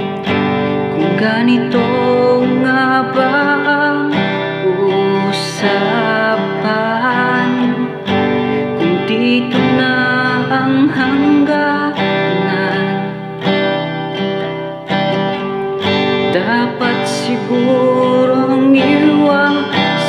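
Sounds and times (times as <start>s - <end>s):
acoustic guitar strumming chords: 0.0s - 20.0s
man singing: 0.9s - 13.5s, 16.2s - 20.0s.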